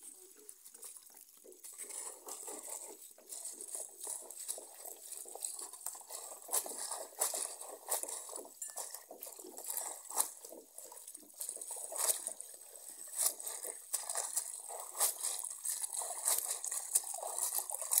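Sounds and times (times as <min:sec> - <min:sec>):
leaves rustling in water: 0:00.0 - 0:18.0
water sloshing in a basin: 0:00.0 - 0:18.0.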